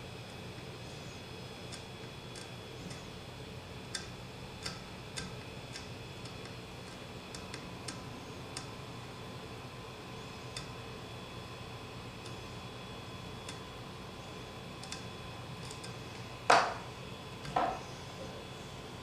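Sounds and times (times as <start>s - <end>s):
printer hum: 0.0s - 19.0s.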